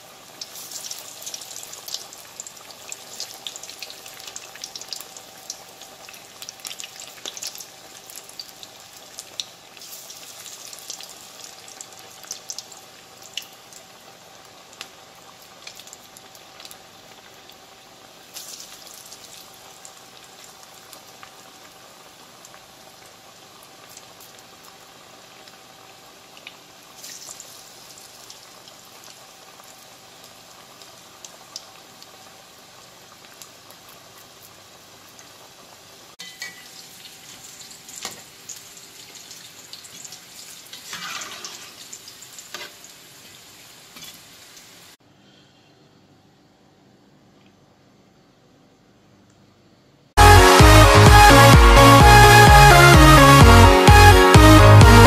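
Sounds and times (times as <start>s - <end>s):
fritters deep-frying in oil: 0.0s - 45.0s.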